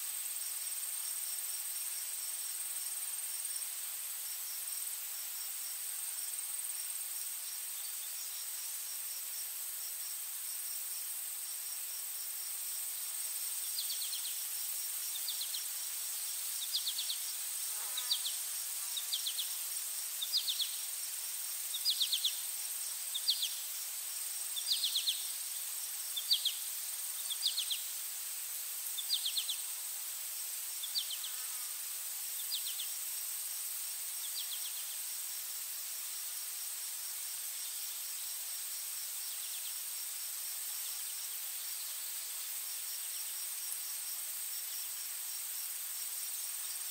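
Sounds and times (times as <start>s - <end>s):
insect chirps: 0.0s - 46.9s
insects buzzing: 0.0s - 46.9s.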